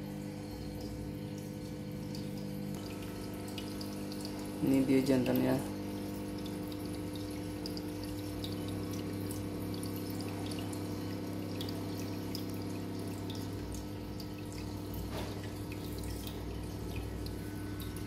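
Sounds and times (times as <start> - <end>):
steady low hum: 0.0 - 18.0
water trickling and dripping: 0.0 - 18.0.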